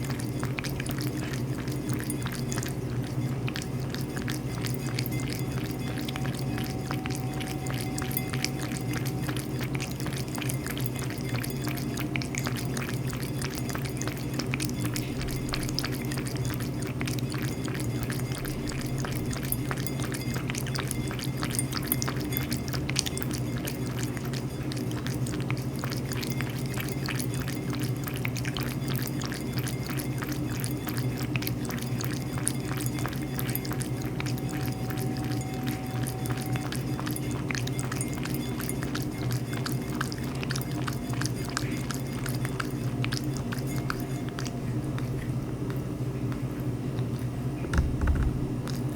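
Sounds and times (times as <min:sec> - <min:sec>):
cat lapping water: 0:00.0 - 0:48.9
steady low hum: 0:00.0 - 0:48.9.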